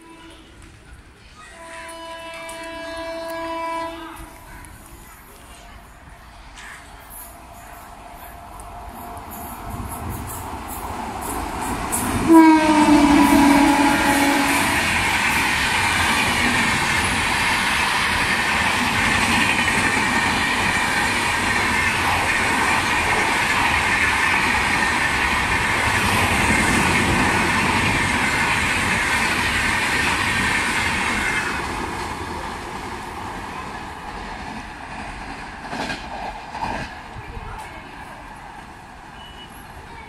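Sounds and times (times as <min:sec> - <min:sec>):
train wheels rushing on rail: 0:00.0 - 0:40.0.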